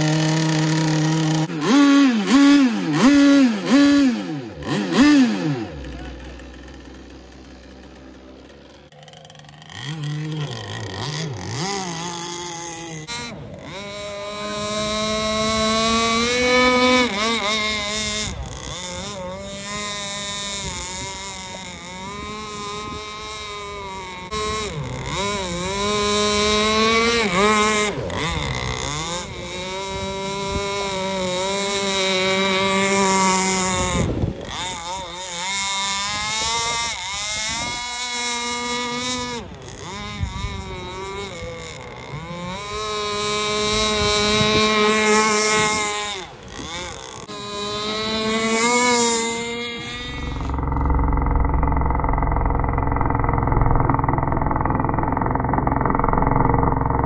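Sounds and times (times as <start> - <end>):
two-stroke model boat engine: 0.0 - 57.0.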